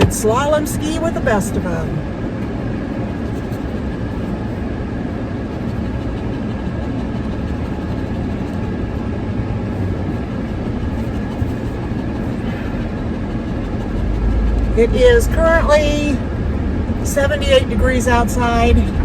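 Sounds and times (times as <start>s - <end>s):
low rumbling outdoor noise: 0.0s - 19.0s.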